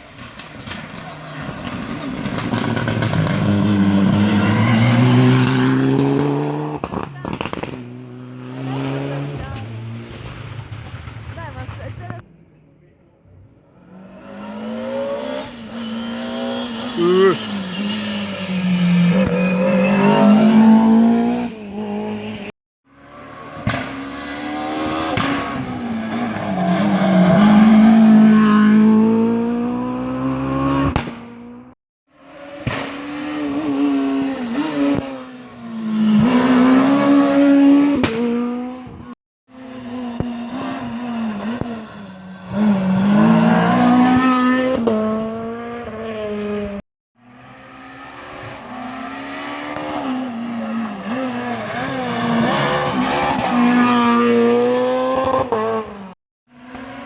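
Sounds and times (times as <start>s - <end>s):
rally car engines revving: 0.0s - 12.7s, 13.6s - 57.0s.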